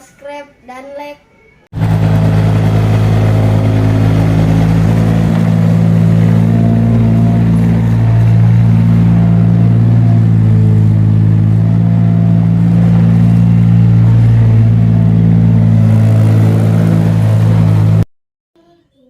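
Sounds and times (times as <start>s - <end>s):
loud steady engine drone: 1.8s - 18.0s.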